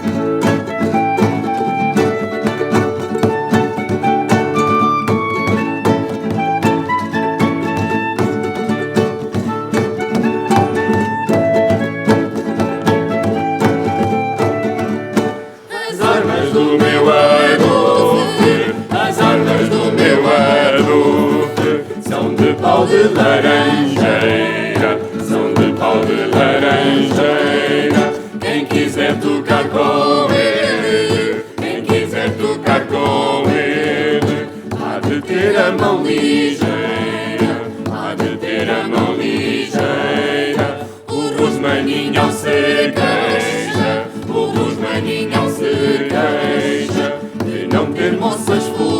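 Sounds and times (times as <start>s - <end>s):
vocal ensemble singing: 0.0s - 48.9s.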